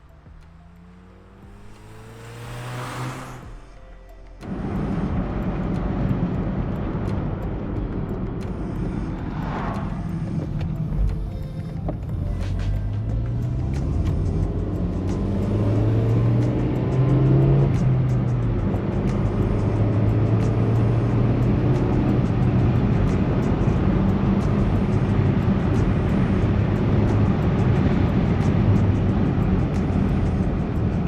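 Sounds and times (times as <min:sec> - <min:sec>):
car engine accelerating: 0:00.0 - 0:31.0
tyre and road noise: 0:00.0 - 0:31.0.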